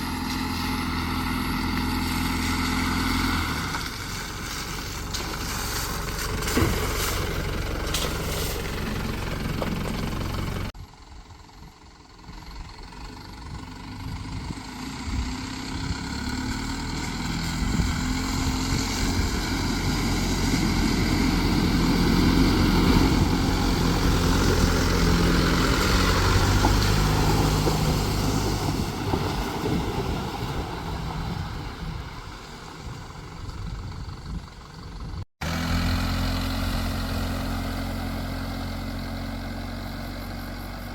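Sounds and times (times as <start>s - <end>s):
diesel engine revving: 0.0s - 10.8s, 11.5s - 40.9s.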